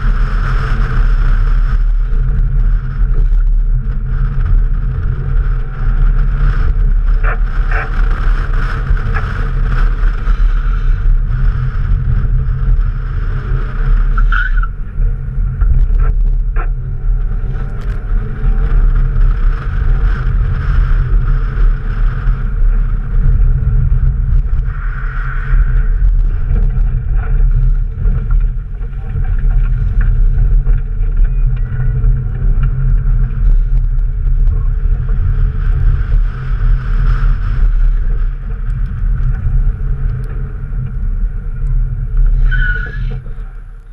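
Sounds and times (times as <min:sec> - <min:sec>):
car engine: 0:00.0 - 0:43.9
road noise: 0:00.0 - 0:43.9
wind rumble on microphone: 0:00.0 - 0:43.9.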